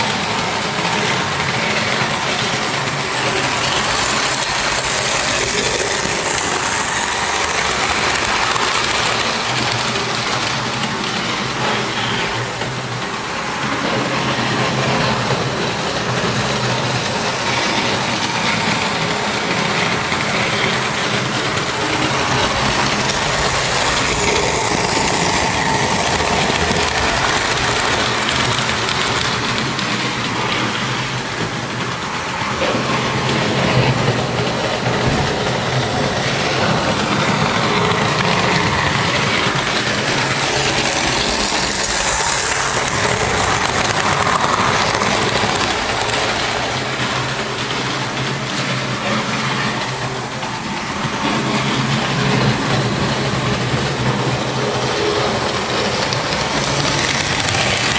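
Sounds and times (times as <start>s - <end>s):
model train wheels rattling on track: 0.0s - 57.9s.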